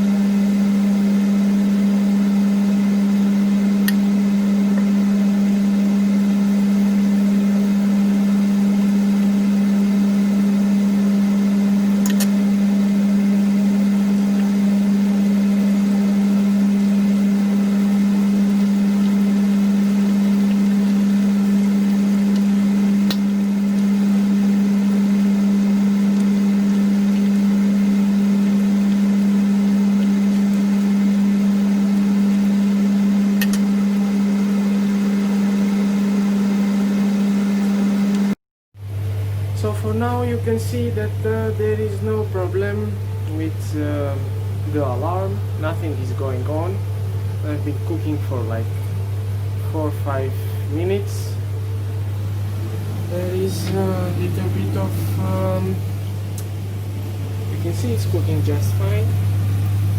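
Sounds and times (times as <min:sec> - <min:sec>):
range hood fan humming: 0:00.0 - 0:59.9.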